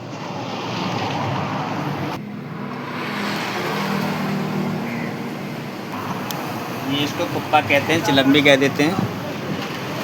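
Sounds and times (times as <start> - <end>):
vehicles passing: 0.0 - 10.0.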